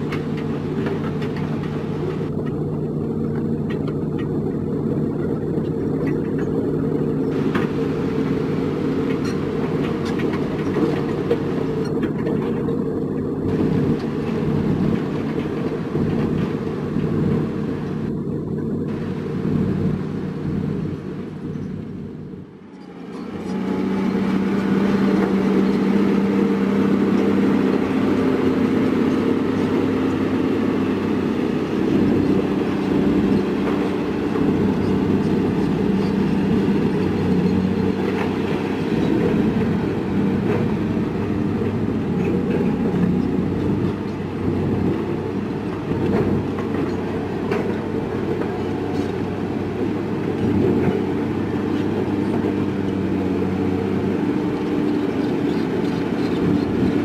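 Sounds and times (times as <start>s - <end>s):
diesel engine droning under load: 0.0s - 57.0s.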